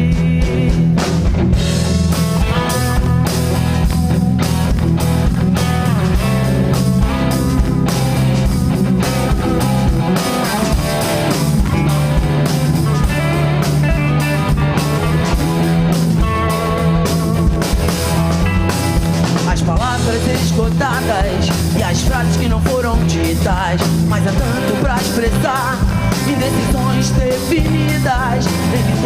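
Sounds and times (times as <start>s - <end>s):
bass guitar: 0.0s - 29.0s
drum kit beat: 0.0s - 29.0s
electric guitar lines: 0.0s - 29.0s.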